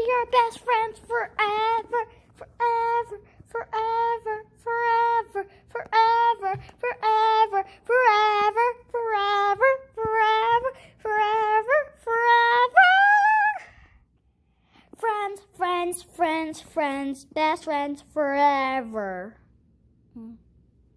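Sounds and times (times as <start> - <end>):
child singing: 0.0 - 13.8, 15.0 - 19.4.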